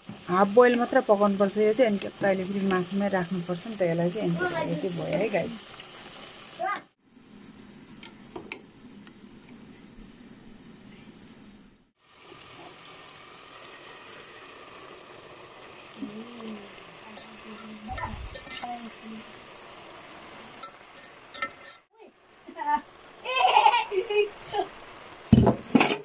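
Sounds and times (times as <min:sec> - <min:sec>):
pot sizzling: 0:00.0 - 0:26.0.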